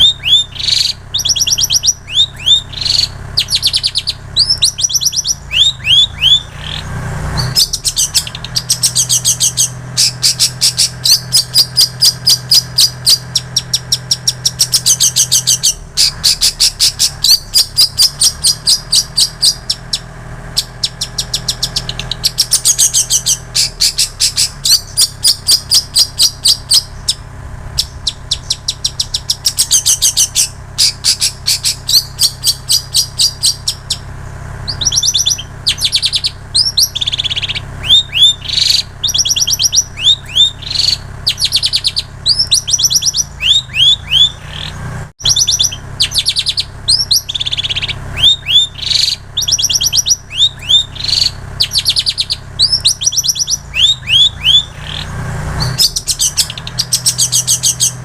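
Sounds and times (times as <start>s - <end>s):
shrike singing trills: 0.0s - 58.0s
steady low hum: 0.0s - 58.0s.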